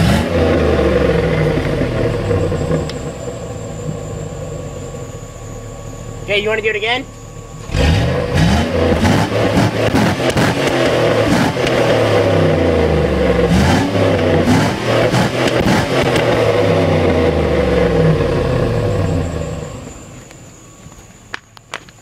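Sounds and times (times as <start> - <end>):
car engine revving: 0.0 - 20.8.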